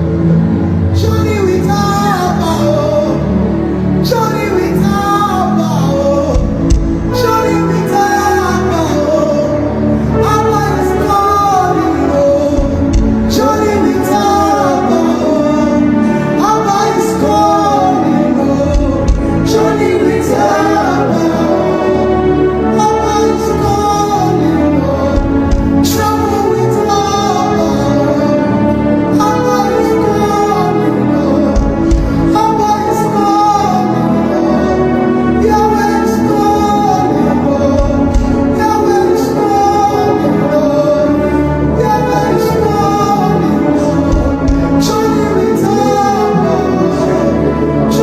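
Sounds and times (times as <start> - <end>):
deep bass notes: 0.0 - 48.0
person singing: 0.0 - 48.0
sustained chords: 0.0 - 48.0.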